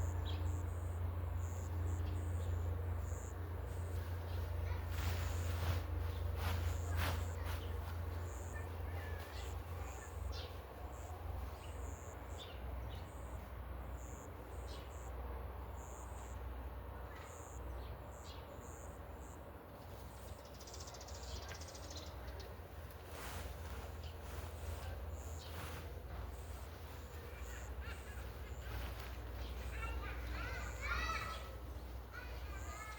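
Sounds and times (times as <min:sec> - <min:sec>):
birds chirping: 0:00.0 - 0:32.9.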